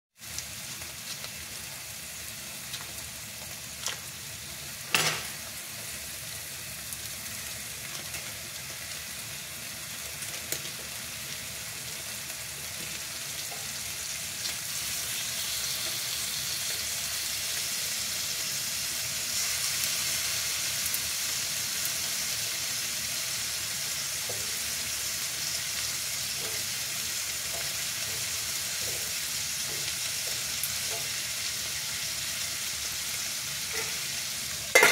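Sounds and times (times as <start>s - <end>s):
meat sizzling in a pan: 0.2s - 34.9s.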